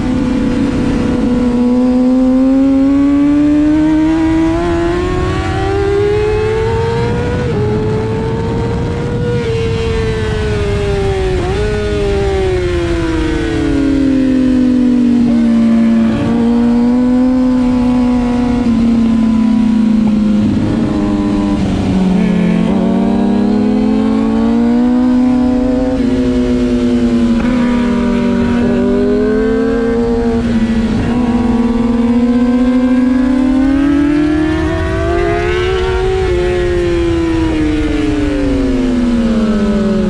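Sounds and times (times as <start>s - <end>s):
motorcycle engine running hard: 0.0s - 40.0s.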